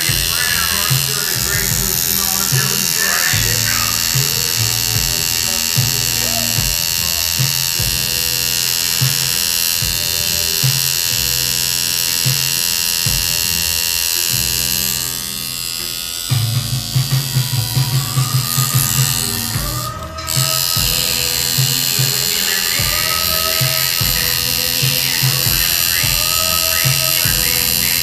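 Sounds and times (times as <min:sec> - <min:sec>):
background music with steady beat: 0:00.0 - 0:28.0
tattoo machine buzzing: 0:00.0 - 0:28.0.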